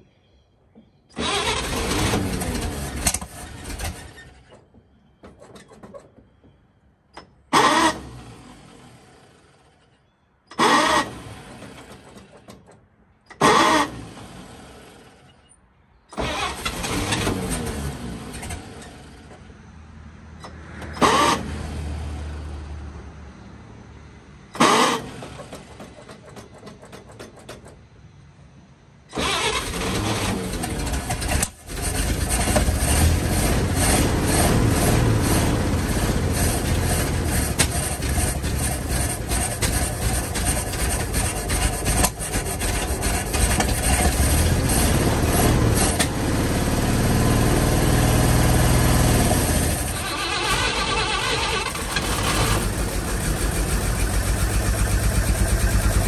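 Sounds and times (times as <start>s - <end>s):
truck engine starting: 1.1s - 23.2s, 24.5s - 28.2s, 29.0s - 56.0s.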